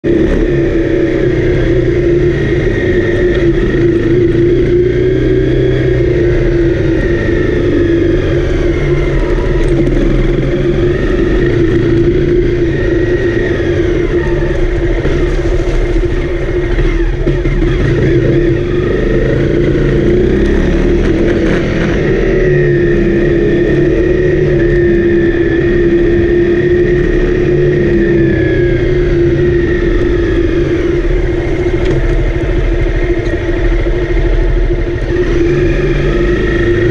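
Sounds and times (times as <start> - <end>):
low wind rumble: 0.0 - 36.9
motorcycle engine revving: 0.0 - 36.9.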